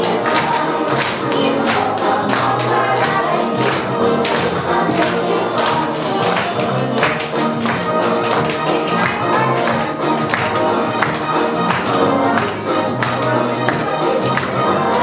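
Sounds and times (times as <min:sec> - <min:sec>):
lively music with steady beat: 0:00.0 - 0:15.0.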